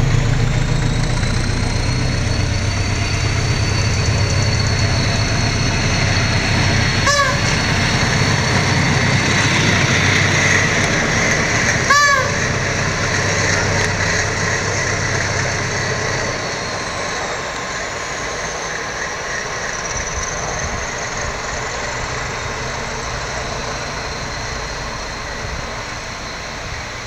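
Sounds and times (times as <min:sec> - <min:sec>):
diesel locomotive engine: 0:00.0 - 0:27.0
train coaches rolling: 0:00.0 - 0:27.0.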